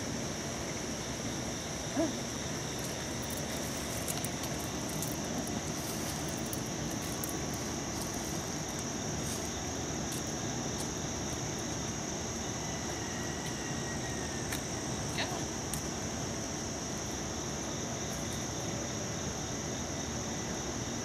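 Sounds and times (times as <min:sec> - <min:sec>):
high insect buzz: 0:00.0 - 0:21.0.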